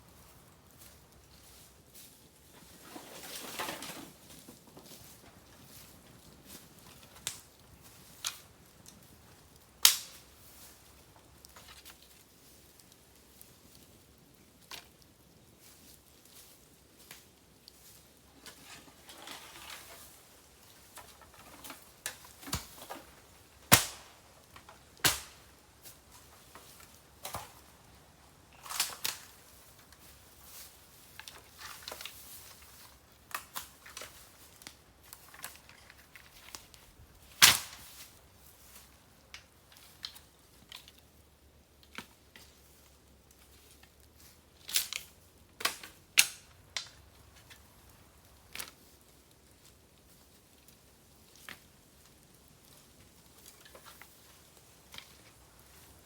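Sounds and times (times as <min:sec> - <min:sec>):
bamboo fire crackling and popping: 0:00.0 - 0:56.0.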